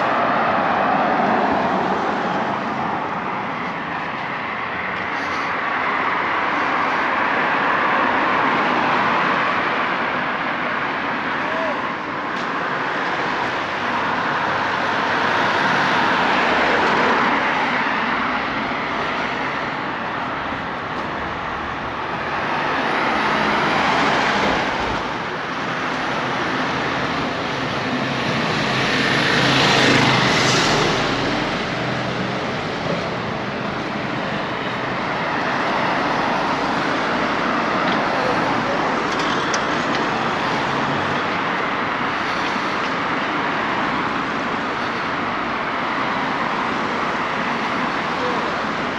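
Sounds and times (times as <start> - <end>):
cars passing: 0.0 - 48.9.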